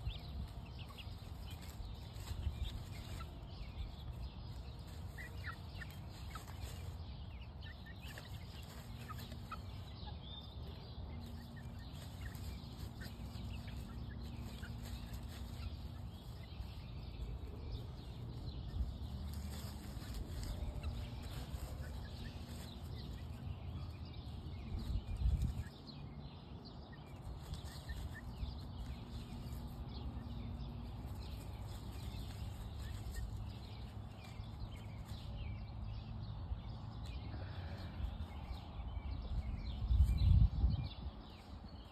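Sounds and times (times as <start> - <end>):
scratching and rustling: 0.0 - 26.0, 27.1 - 35.5.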